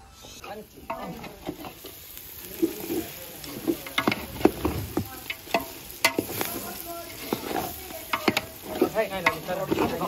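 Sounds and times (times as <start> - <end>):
spoon scraping and knocking pan: 0.3 - 10.0.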